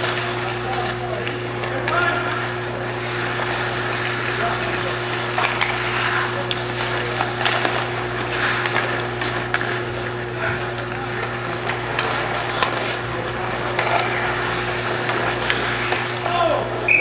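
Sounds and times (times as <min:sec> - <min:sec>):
distant voices: 0:00.0 - 0:17.0
hockey sticks and puck clacking: 0:00.0 - 0:17.0
skate blades scraping ice: 0:00.0 - 0:17.0
steady low hum: 0:00.0 - 0:17.0.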